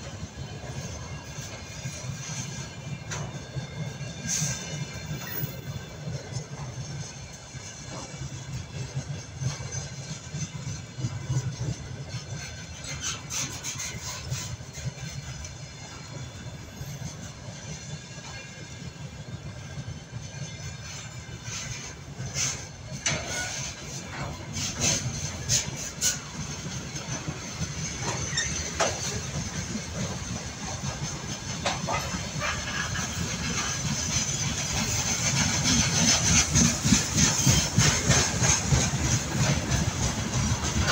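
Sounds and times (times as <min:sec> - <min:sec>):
metallic wheel and rail noises: 0:00.0 - 0:18.9, 0:19.5 - 0:40.9.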